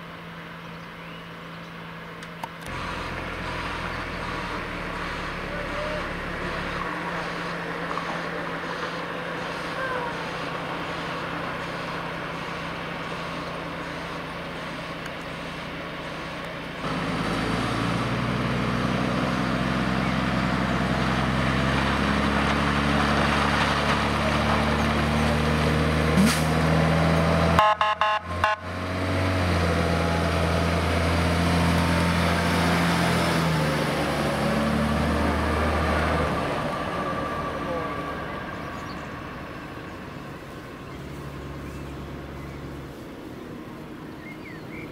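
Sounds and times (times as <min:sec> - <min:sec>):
diesel truck engine: 0:00.0 - 0:44.9.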